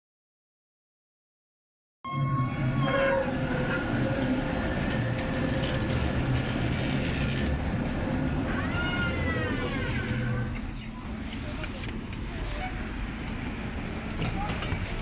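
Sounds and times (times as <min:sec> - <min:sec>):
tram rumbling and rattling: 0:02.1 - 0:15.0.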